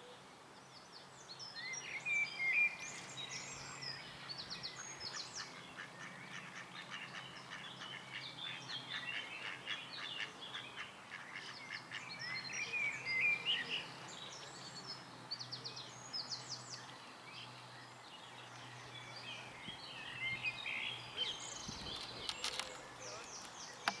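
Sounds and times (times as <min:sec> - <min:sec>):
birds chirping: 0:01.7 - 0:24.0.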